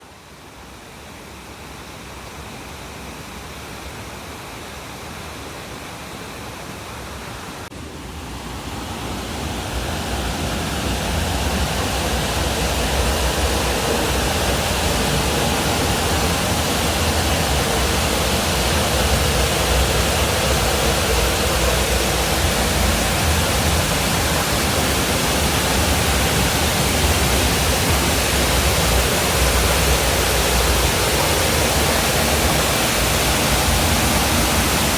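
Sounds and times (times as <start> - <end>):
waterfall rushing: 1.8 - 34.9.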